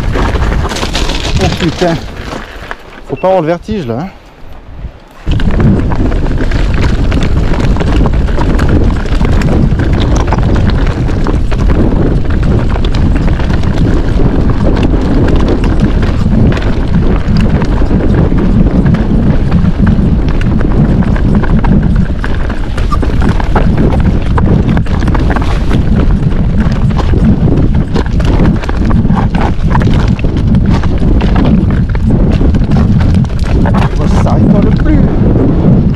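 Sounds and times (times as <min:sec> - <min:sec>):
mountain bike rattling over rocks: 0:00.0 - 0:03.9, 0:05.2 - 0:35.9.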